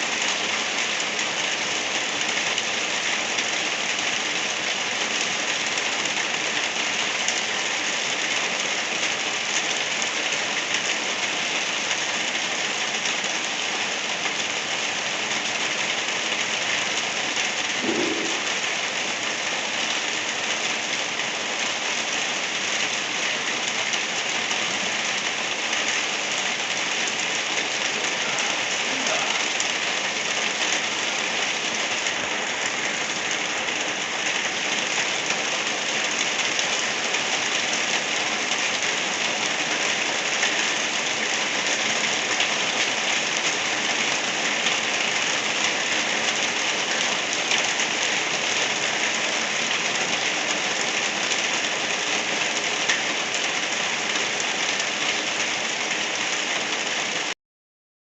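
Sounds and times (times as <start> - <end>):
gentle rain falling: 0.0 - 57.4.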